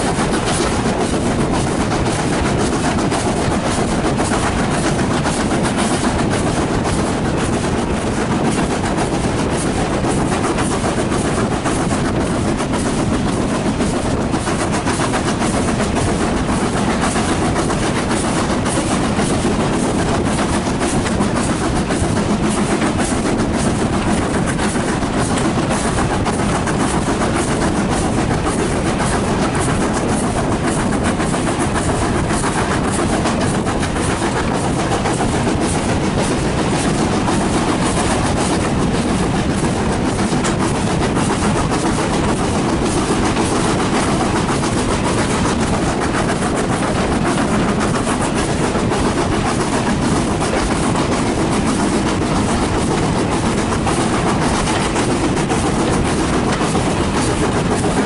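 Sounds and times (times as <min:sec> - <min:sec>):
train rumbling on track: 0:00.0 - 0:58.0
wheels clicking on rails: 0:00.0 - 0:58.0.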